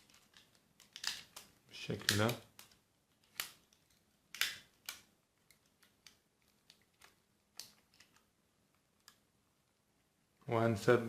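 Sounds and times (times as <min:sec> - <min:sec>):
faint clicks and taps: 0:00.0 - 0:09.8.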